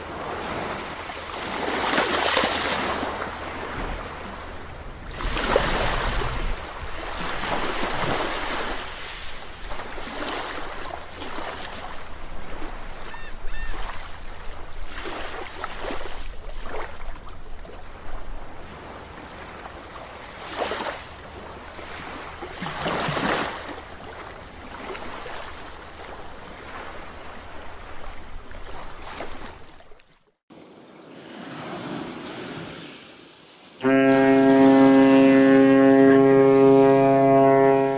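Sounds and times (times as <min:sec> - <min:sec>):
sea waves breaking on beach: 0:00.0 - 0:37.9.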